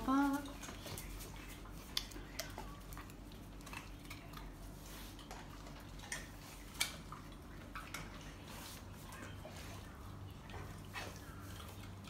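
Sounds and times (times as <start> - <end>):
dog chewing carrot crunching: 0.0 - 12.0.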